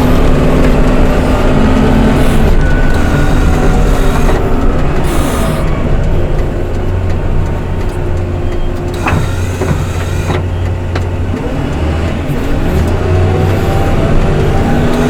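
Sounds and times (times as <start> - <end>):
snow-clearing machine engine humming: 0.0 - 15.0.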